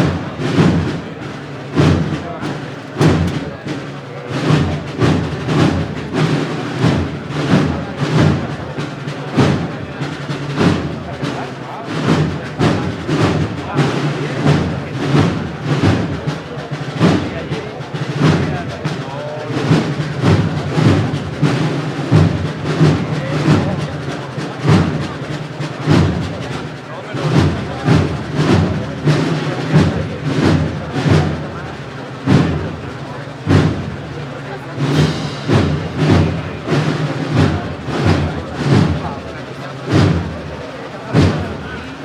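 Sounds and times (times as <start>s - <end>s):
crowd noise: 0.0s - 42.0s
drum strokes: 0.0s - 42.0s
wind band playing a march: 0.0s - 42.0s.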